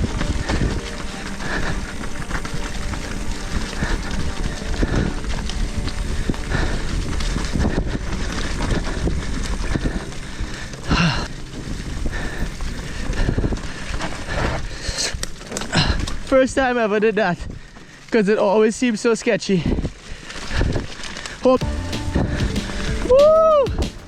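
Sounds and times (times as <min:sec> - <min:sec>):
tyres rolling on rocky dirt: 0:00.0 - 0:24.0.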